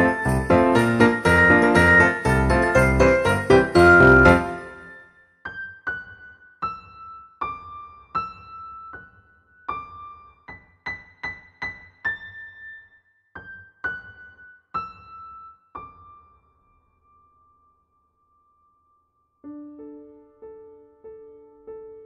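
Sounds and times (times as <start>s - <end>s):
electric piano melody: 0.0s - 17.7s, 19.4s - 22.0s.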